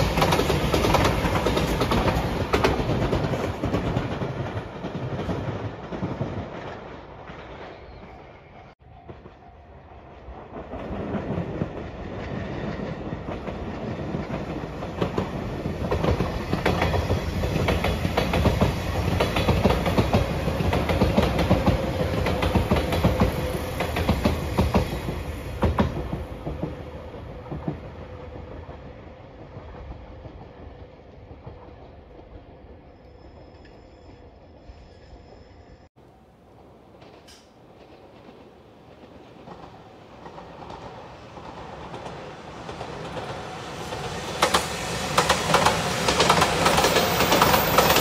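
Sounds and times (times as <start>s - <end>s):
electric train passing: 0.0s - 48.0s.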